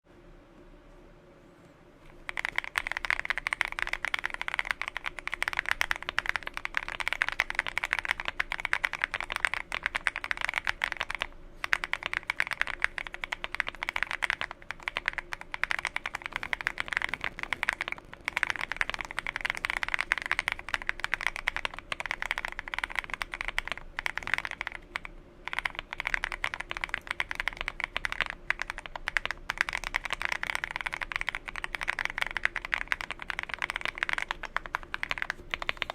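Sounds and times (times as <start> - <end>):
fast mechanical keyboard typing: 2.1 - 35.9.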